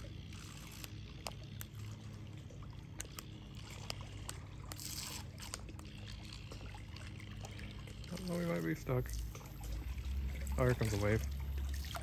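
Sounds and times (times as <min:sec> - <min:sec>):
steady low rumble: 0:00.0 - 0:12.0
water splashing ticks: 0:00.0 - 0:12.0.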